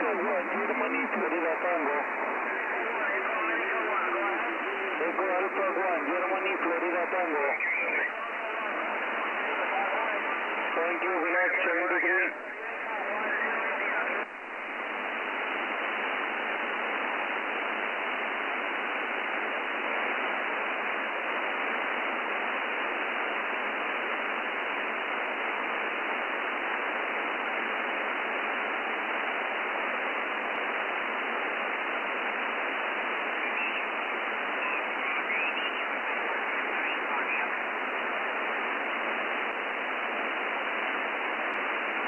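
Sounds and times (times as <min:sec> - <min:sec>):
shortwave radio static hiss: 0:00.0 - 0:42.0.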